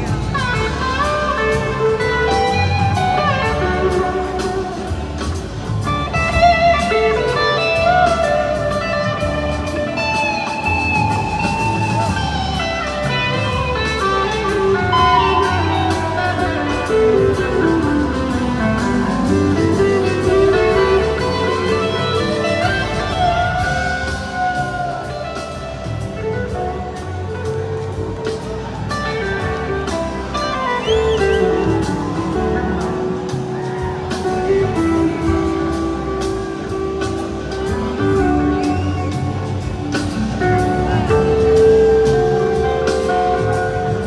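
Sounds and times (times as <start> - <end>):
blues-rock band playing: 0.0 - 44.0.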